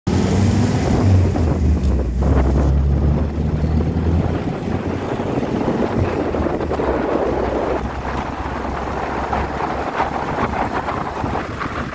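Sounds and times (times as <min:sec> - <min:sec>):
jeep engine drone: 0:00.1 - 0:11.9
wind buffeting on microphone: 0:00.1 - 0:11.9.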